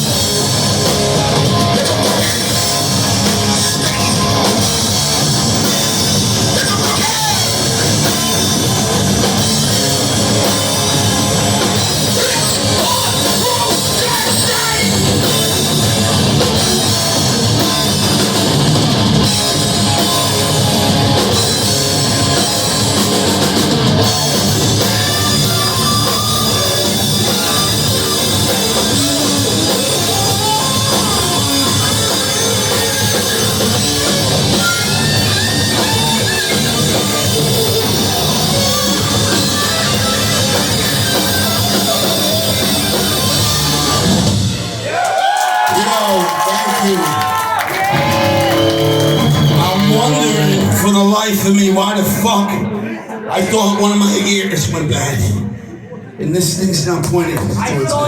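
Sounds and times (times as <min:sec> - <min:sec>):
bass guitar: 0:00.0 - 0:45.4, 0:47.1 - 0:52.8
drum kit: 0:00.0 - 0:50.9
rock vocals: 0:00.0 - 0:55.4
distorted guitars: 0:00.0 - 0:55.6.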